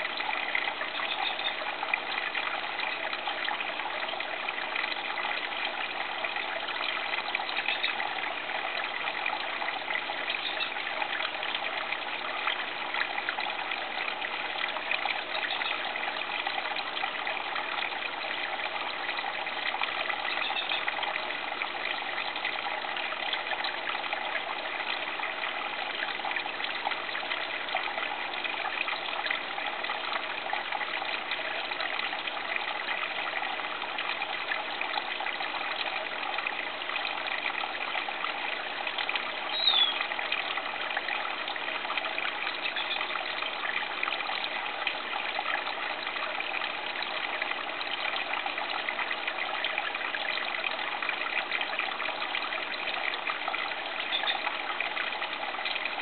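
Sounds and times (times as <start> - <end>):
fountain water trickling: 0.0 - 56.0.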